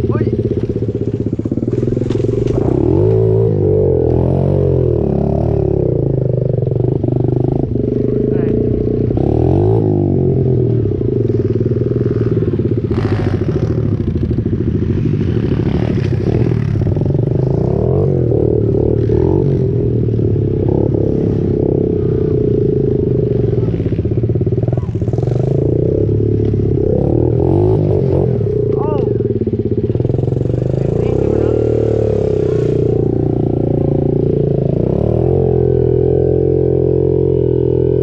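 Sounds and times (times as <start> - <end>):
motorbike engine revving: 0.0 - 38.0.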